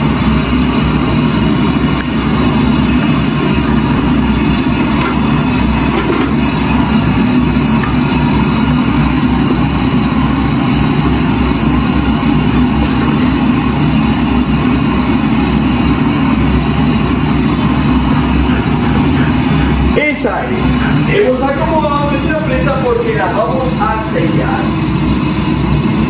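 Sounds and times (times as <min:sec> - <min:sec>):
low continuous roar: 0:00.0 - 0:26.0.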